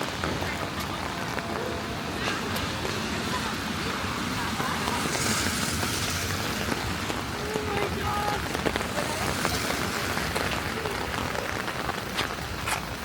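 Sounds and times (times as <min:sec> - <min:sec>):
rain on wet pavement: 0:00.0 - 0:13.0.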